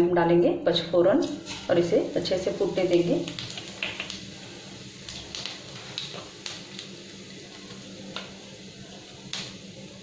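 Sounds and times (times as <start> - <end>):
seeds sizzling and popping in oil: 1.2 - 10.0.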